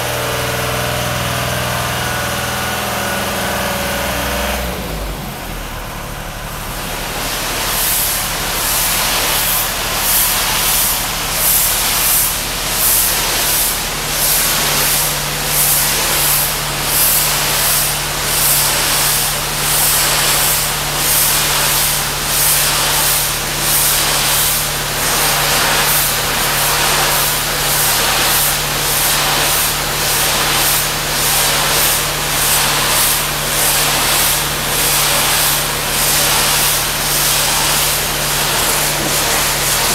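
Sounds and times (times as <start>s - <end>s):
engine running: 0.0s - 39.9s
pressure washer water jet hissing: 6.5s - 39.9s.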